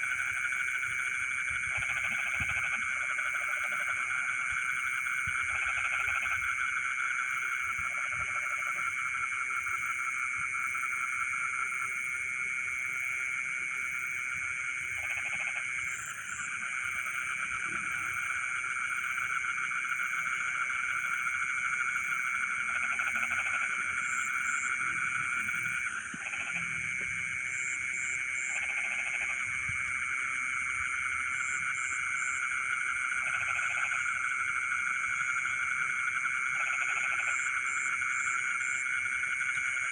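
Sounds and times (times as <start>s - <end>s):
frogs trilling chorus: 0.0s - 39.9s
low frog croaks: 0.0s - 39.9s.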